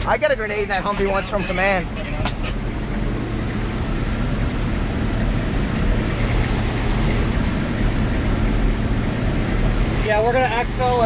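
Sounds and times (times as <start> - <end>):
vehicle engine rumble inside cabin: 0.0 - 11.0.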